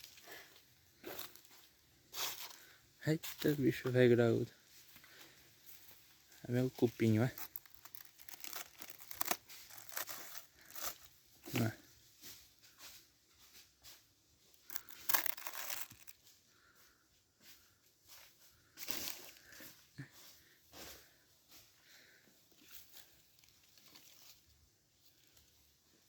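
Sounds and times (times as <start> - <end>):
branches rustling and crackling: 0.0 - 26.0.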